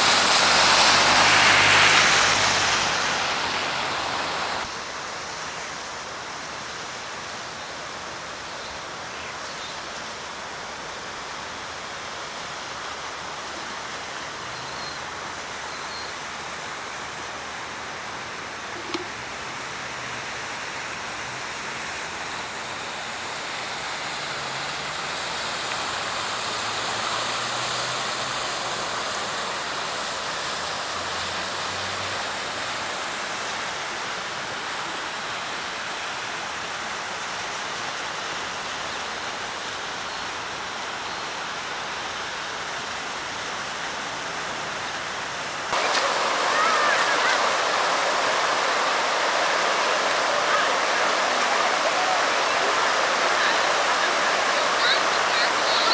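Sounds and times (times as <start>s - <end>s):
floodwater rushing: 0.0s - 55.9s.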